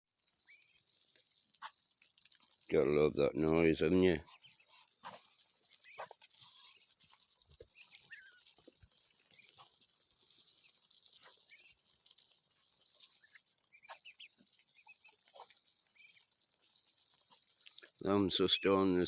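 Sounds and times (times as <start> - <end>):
ducklings pecking and clicking: 0.1 - 19.0
ducklings peeping softly: 0.1 - 19.0.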